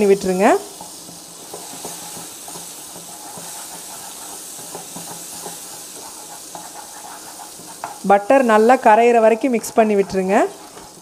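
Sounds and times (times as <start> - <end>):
butter sizzling in caramel: 0.0 - 11.0.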